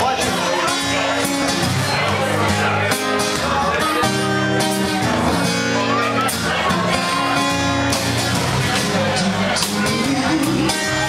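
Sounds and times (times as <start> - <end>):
acoustic guitar: 0.0 - 11.0
drums: 0.0 - 11.0
electric guitar: 0.0 - 11.0.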